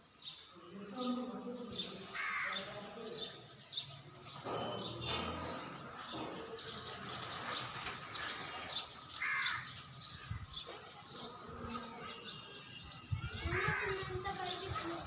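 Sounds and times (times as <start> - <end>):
harsh low bird calls: 1.8 - 15.0.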